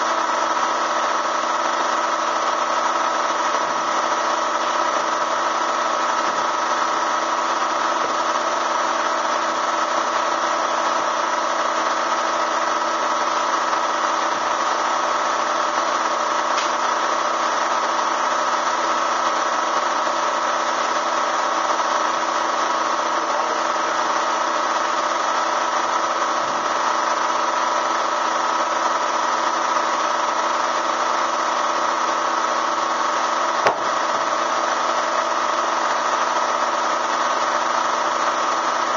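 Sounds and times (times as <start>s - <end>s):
vacuum motor droning: 0.0s - 38.9s.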